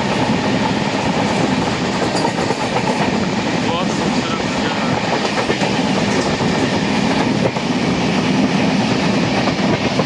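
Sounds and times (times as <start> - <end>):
train wheels rushing on rails: 0.0 - 10.0.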